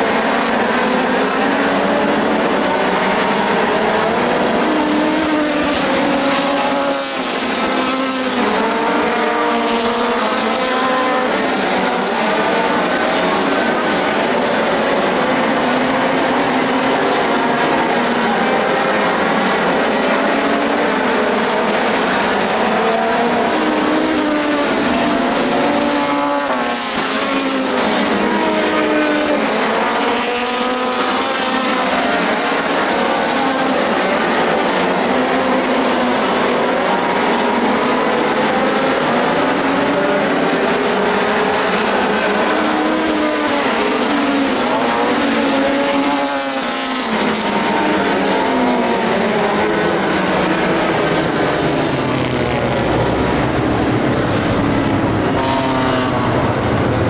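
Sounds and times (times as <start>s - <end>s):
cars passing close: 0.0s - 57.0s
race car engines: 0.0s - 57.0s.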